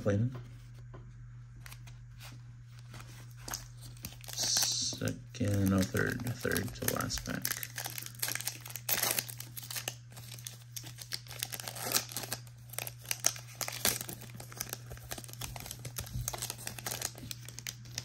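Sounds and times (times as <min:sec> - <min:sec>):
foil wrapper crinkling and tearing: 0:03.0 - 0:18.0.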